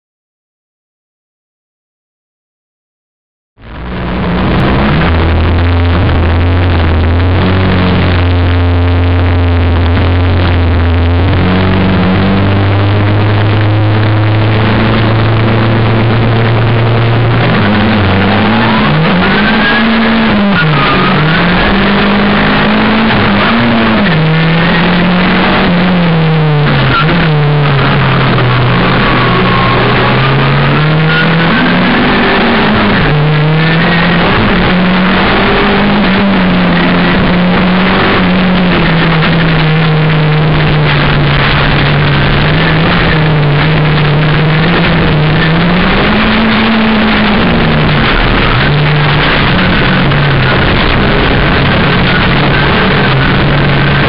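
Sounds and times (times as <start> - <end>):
car engine revving: 3.6 - 54.0.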